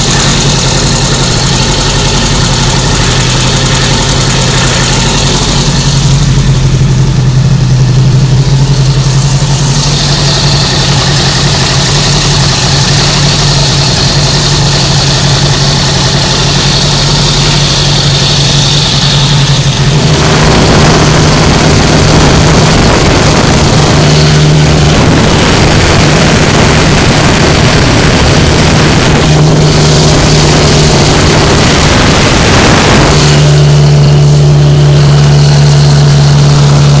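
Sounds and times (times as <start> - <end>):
loud harsh engine rattle: 0.0 - 37.0
vehicle engine hum: 0.0 - 37.0.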